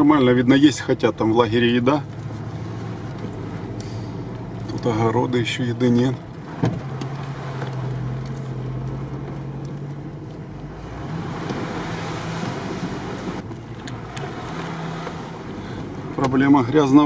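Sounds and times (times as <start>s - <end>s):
low engine hum: 0.0s - 17.0s
tyre and road noise: 0.0s - 17.0s.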